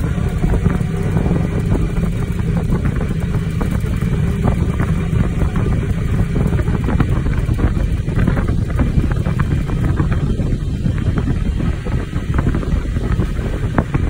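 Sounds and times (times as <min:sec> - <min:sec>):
vehicle driving rumble: 0:00.0 - 0:14.0
wind buffeting microphone: 0:00.0 - 0:14.0.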